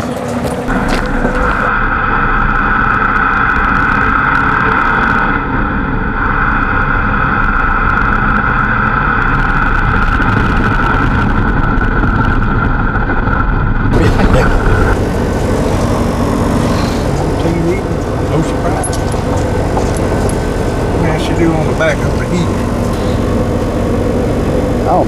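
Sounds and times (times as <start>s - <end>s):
high whine: 0.0s - 25.0s
truck engine and road noise: 0.0s - 25.0s.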